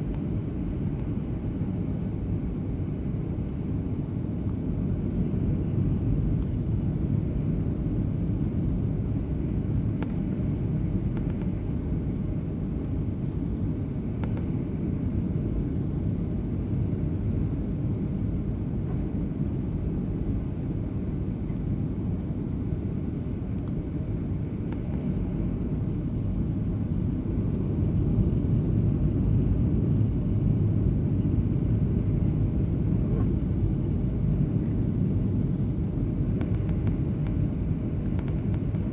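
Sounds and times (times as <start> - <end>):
jet airliner cabin rumble: 0.0 - 38.9.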